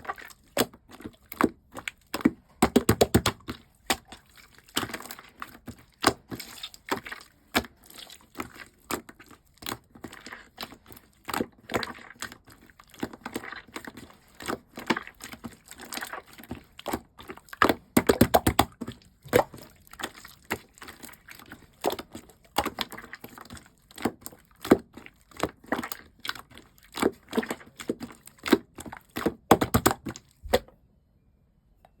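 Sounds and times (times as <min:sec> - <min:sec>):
slime squished by hand: 0:00.0 - 0:30.7.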